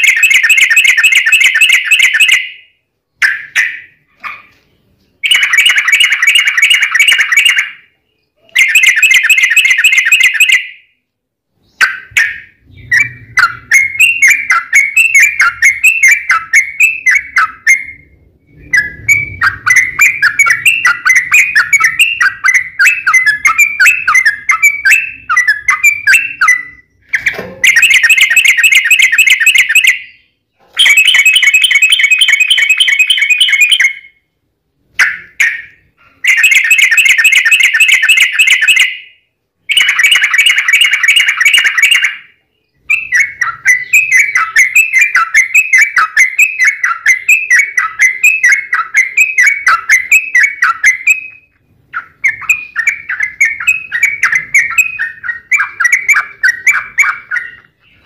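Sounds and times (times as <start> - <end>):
bulbul chattering song: 0.0 - 58.0
repeated down-slurred bird notes: 0.0 - 58.0.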